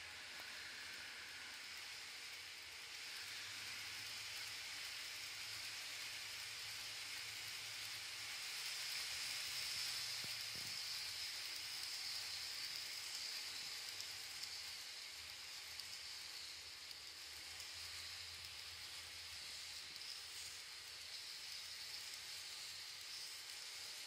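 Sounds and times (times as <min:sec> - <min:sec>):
model train wagons rattling: 0:00.1 - 0:24.0.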